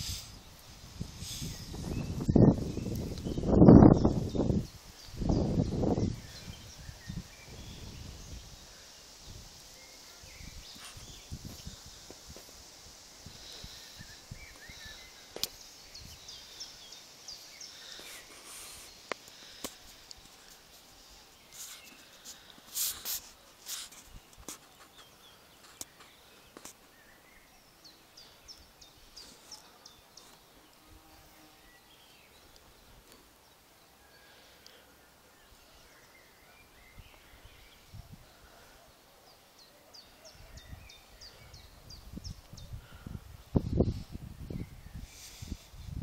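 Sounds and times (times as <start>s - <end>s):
birds chirping: 0.0s - 46.0s
outdoor background noise: 0.0s - 46.0s.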